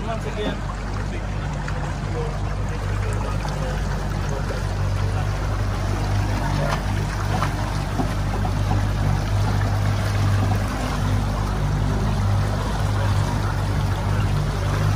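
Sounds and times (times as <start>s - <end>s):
boat engine humming: 0.0s - 14.9s
water splashing along hull: 0.0s - 14.9s.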